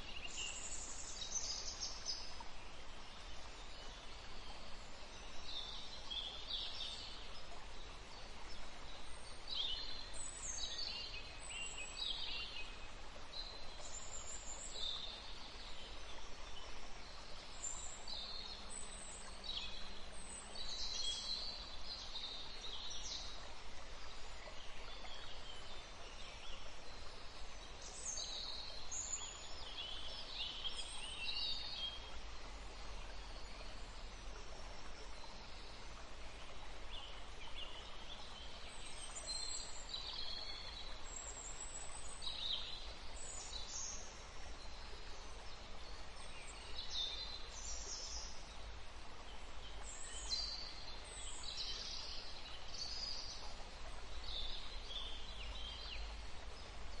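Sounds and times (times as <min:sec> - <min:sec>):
outdoor ambience hiss: 0:00.0 - 0:57.0.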